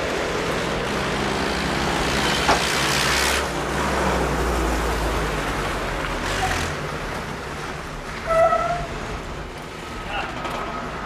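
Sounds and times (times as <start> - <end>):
tyre and road noise: 0.0 - 11.0.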